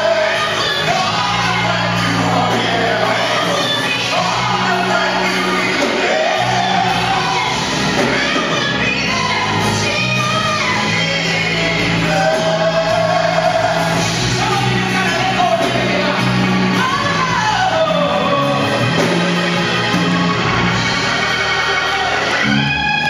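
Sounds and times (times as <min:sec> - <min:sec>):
band playing low chords: 0:00.0 - 0:23.0.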